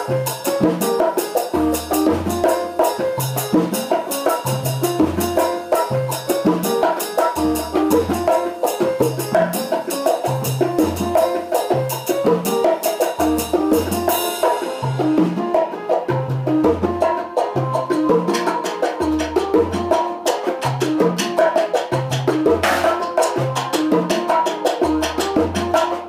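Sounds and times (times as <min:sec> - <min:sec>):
drum kit and bongos: 0:00.0 - 0:26.0
salsa music with bass line: 0:00.0 - 0:26.0.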